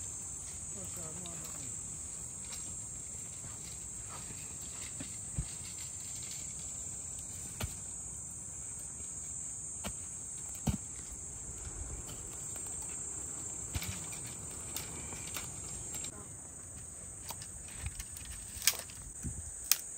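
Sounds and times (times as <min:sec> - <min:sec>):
insects chirping: 0:00.0 - 0:19.9.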